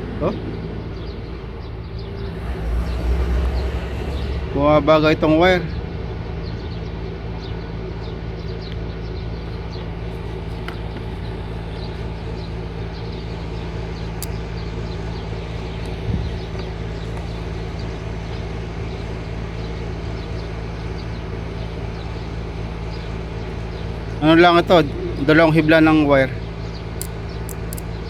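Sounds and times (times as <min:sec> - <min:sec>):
machine hum: 0:00.0 - 0:28.0.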